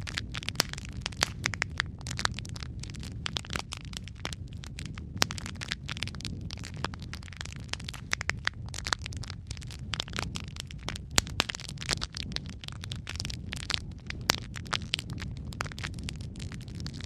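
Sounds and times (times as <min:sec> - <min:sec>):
burning logs popping: 0:00.0 - 0:17.0
wood fire crackling: 0:00.0 - 0:17.0.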